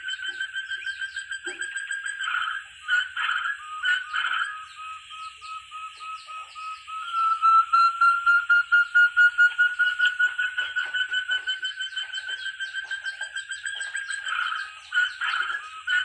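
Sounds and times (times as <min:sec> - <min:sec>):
partridge whistled calls: 0:00.0 - 0:16.0.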